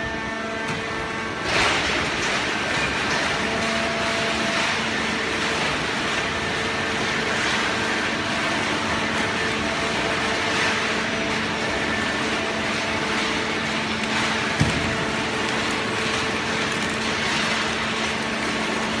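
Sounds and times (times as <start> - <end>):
baling press machine humming: 0.0 - 19.0.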